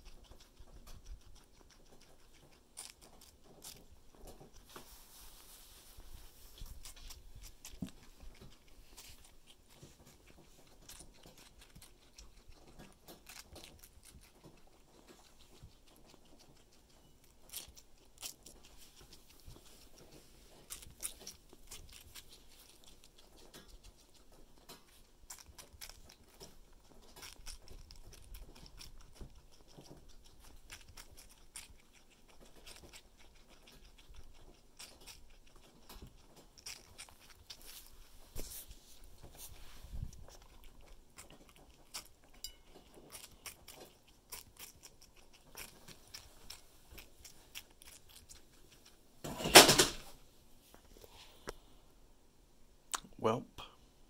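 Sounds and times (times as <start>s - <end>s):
guinea pig chewing: 0.0s - 51.8s.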